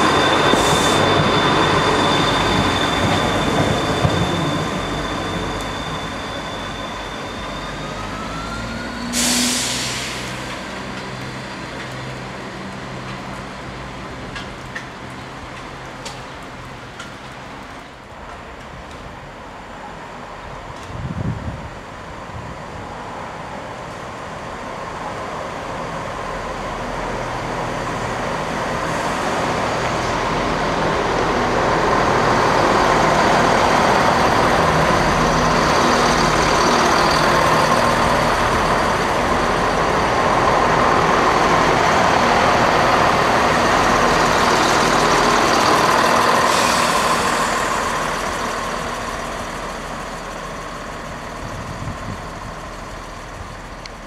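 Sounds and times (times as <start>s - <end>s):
diesel train engines: 0.0s - 54.0s
train wheels on rails: 0.0s - 54.0s.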